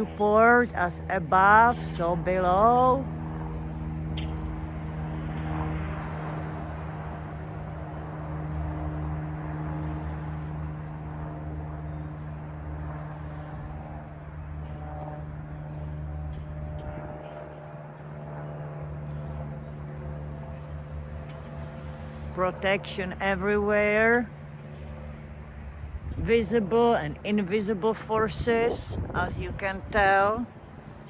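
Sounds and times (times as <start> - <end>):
steady engine hum: 0.0 - 31.0.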